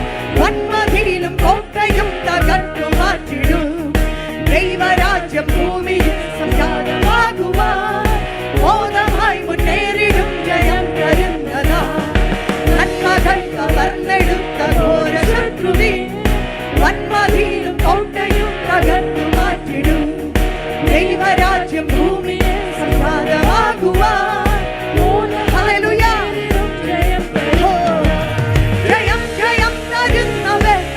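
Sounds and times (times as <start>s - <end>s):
band playing worship song: 0.0s - 30.9s
person singing: 0.0s - 30.9s.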